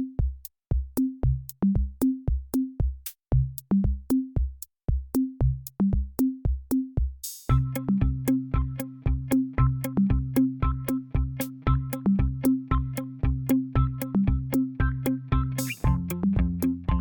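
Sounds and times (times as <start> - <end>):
electronic drum-machine beat: 0.0 - 17.0.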